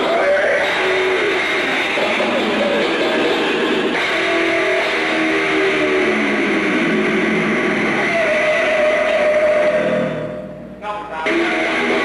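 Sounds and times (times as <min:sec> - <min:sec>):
distorted electric guitar: 0:00.0 - 0:12.0.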